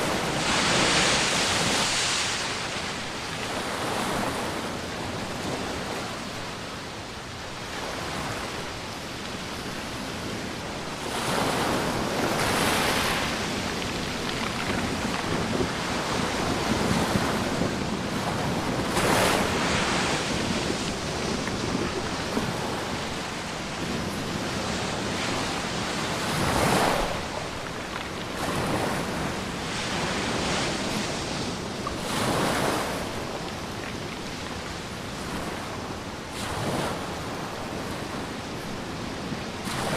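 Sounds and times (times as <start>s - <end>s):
surf washing onto beach: 0.0s - 39.9s
wind buffeting microphone: 0.0s - 39.9s.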